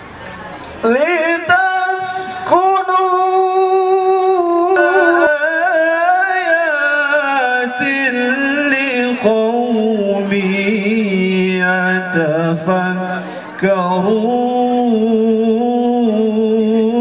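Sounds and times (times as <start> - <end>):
man chanting recitation: 0.8 - 17.0.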